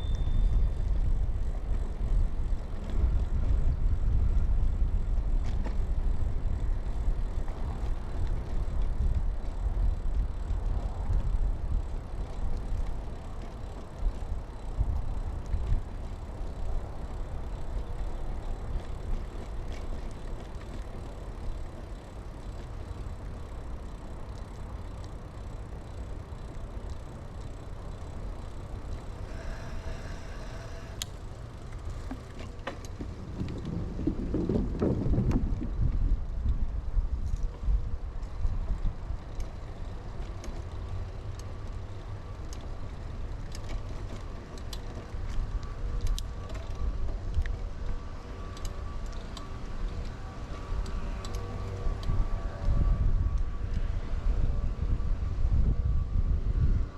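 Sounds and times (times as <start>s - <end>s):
bicycle tyre rumble: 0.0s - 56.9s
light bicycle clicks: 0.0s - 56.9s
wind rush while cycling: 0.0s - 56.9s.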